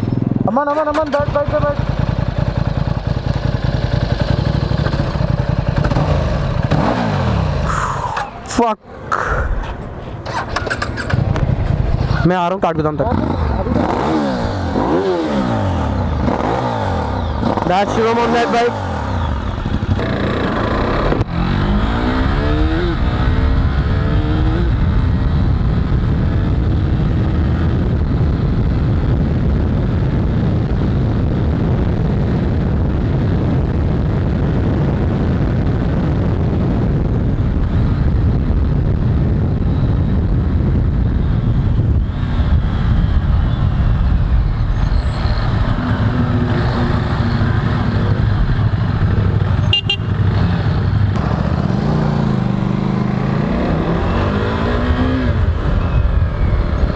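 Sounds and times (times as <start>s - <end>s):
motorcycle engine revving: 0.0s - 8.0s, 10.2s - 56.9s
wind noise: 1.6s - 56.9s.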